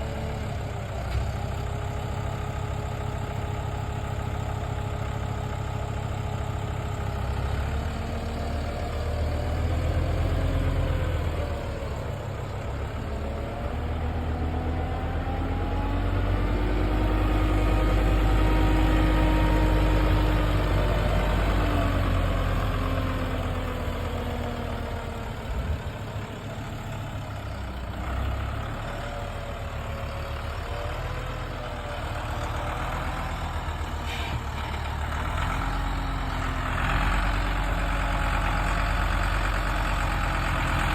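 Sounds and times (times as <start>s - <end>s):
heavy machine engine revving: 6.0s - 40.9s.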